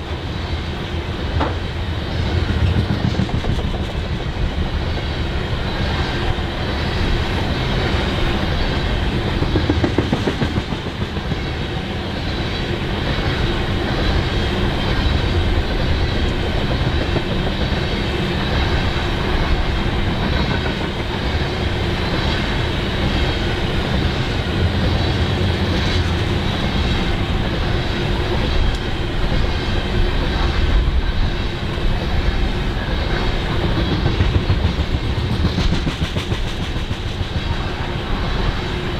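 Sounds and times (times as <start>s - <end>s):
steel wheels rolling on rail: 0.0s - 38.9s.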